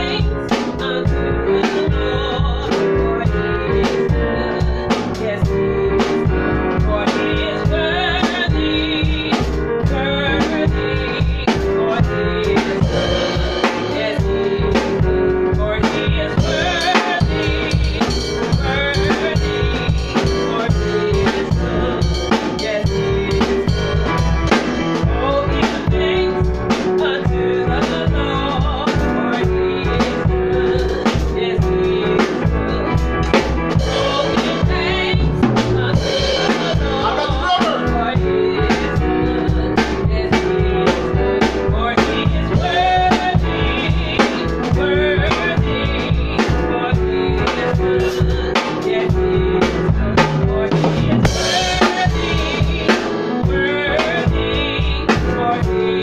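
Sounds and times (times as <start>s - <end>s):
drum kit steady beat: 0.0s - 56.0s
keyboard playing: 0.0s - 56.0s.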